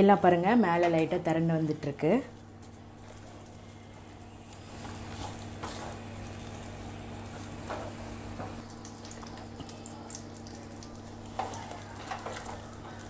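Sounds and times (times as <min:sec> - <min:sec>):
faint sizzle of hot fat: 0:01.7 - 0:13.0.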